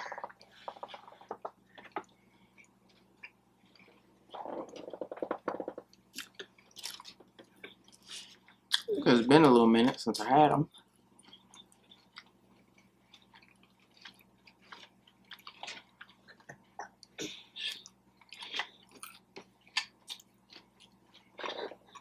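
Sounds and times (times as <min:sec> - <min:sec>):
person chewing food: 0:00.0 - 0:09.0, 0:10.7 - 0:22.0.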